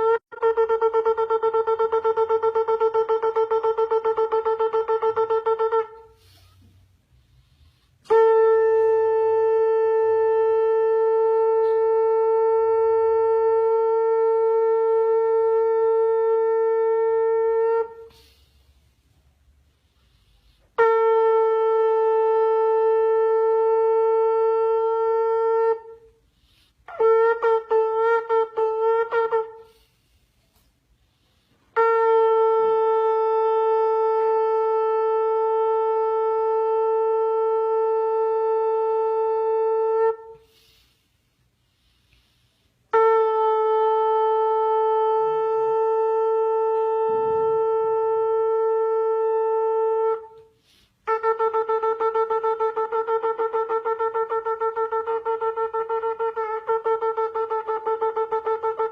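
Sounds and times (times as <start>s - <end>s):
ram's horn blowing: 0.0s - 58.9s.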